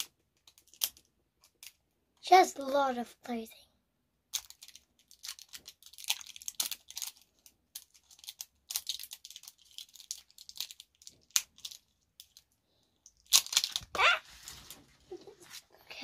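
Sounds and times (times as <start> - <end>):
plastic wrapping crinkling and tearing: 0.0 - 1.8, 4.3 - 15.7.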